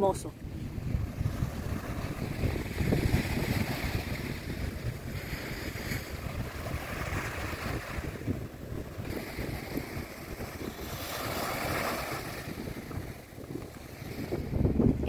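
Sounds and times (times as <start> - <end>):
small waves washing onto sand: 0.0 - 15.0
wind buffeting microphone: 0.0 - 15.0.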